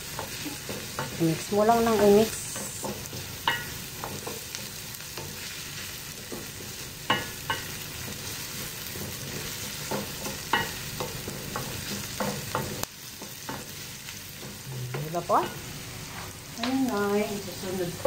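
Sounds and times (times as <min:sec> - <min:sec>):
onion sizzling in oil: 0:00.0 - 0:18.0.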